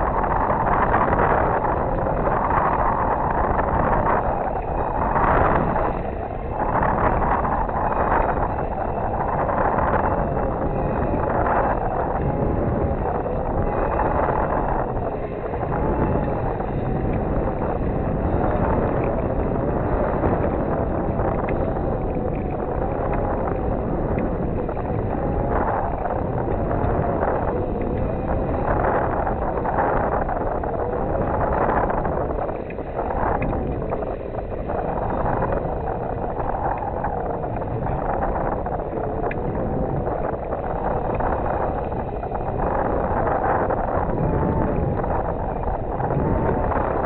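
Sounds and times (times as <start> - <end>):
wind rushing over microphone: 0.0 - 47.0.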